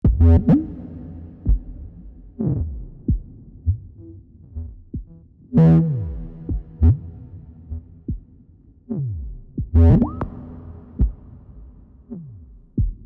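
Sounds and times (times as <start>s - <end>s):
synthesizer low thumps: 0.0s - 13.0s.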